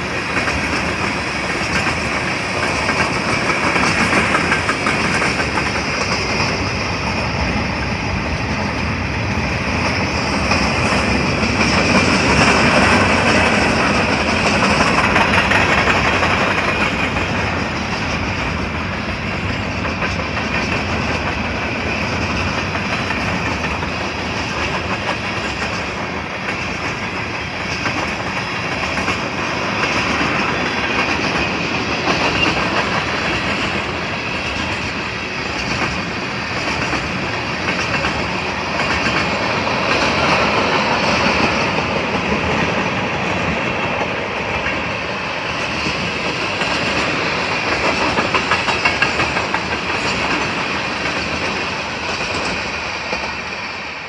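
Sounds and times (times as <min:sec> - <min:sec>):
wheels clicking over rail joints: 0:00.0 - 0:08.0, 0:09.8 - 0:53.3
train wheels on rails: 0:00.0 - 0:54.0.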